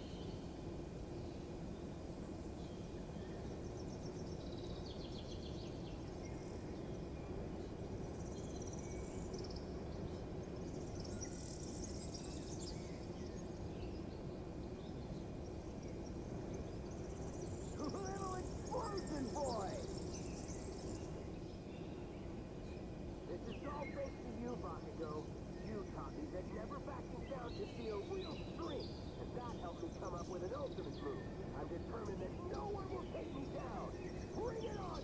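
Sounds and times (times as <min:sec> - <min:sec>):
low background hum: 0:00.0 - 0:35.0
birds chirping and trilling: 0:02.5 - 0:35.0.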